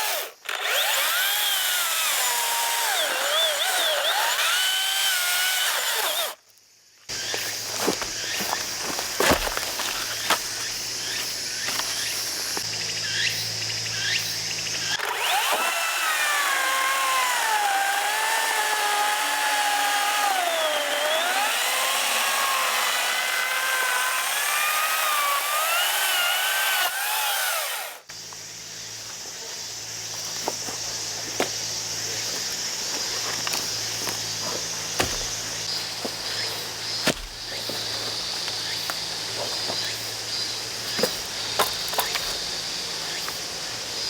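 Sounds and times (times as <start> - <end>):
electric chainsaw cutting wood: 0.0 - 6.4, 7.1 - 44.0.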